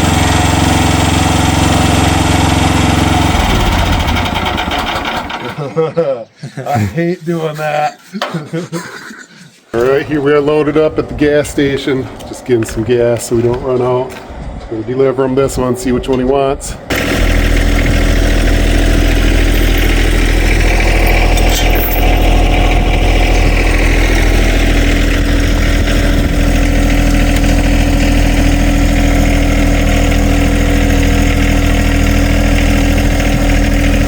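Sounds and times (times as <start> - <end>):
truck engine droning: 0.0 - 5.8, 9.8 - 34.0.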